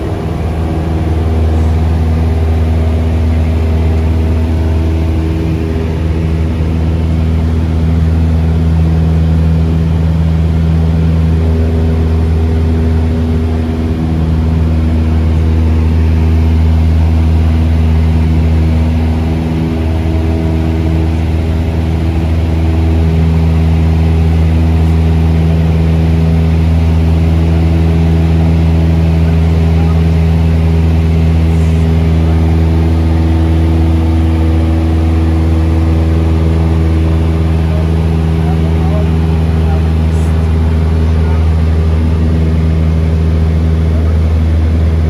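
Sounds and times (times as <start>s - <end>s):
airplane engine drone in cabin: 0.0s - 45.0s.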